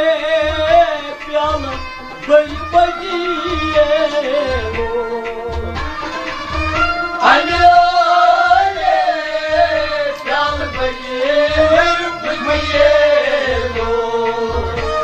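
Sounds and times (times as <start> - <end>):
devotional song: 0.0 - 15.0
low drum beat: 0.0 - 15.0.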